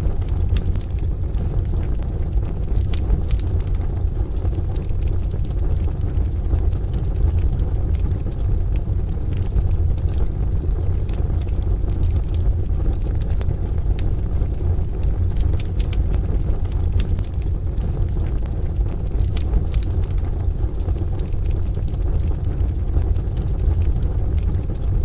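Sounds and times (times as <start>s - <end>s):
steady low rumble: 0.0s - 25.0s
wood fire crackling: 0.0s - 25.0s.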